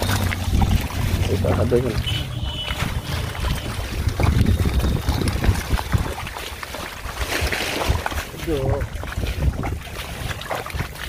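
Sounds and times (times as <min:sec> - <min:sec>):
hands splashing in muddy water: 0:00.0 - 0:11.0
wind rumble on microphone: 0:00.0 - 0:11.0.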